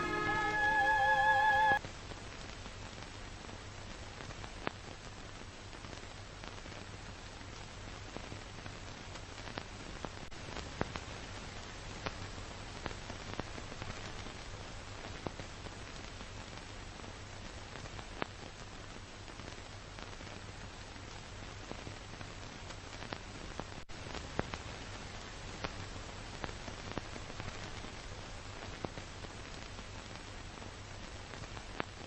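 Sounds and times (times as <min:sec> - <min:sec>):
tape hiss: 0:00.0 - 0:32.0
crackling pops: 0:02.2 - 0:32.0.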